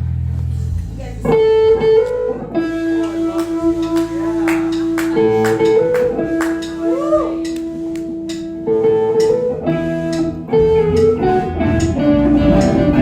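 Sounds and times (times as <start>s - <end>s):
guitar playing slow melody: 0.0s - 13.0s.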